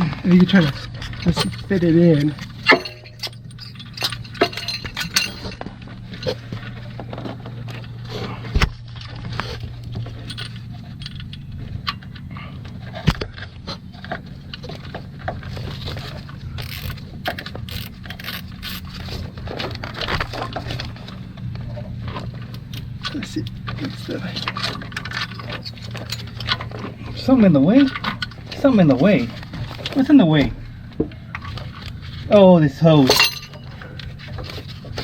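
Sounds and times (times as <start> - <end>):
metal tools clinking: 0.0 - 8.0, 9.4 - 13.0, 13.7 - 30.6, 31.2 - 35.0
low hum: 0.0 - 35.0.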